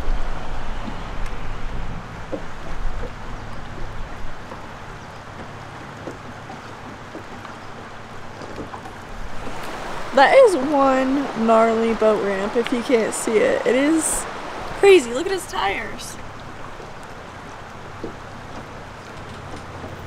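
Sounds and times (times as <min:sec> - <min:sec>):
shallow river rushing over cobbles: 0:00.0 - 0:20.0
wind rumbling on microphone: 0:00.0 - 0:20.0.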